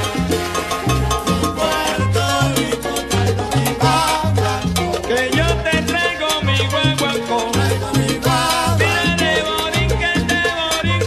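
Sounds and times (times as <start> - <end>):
salsa music: 0.0 - 11.0.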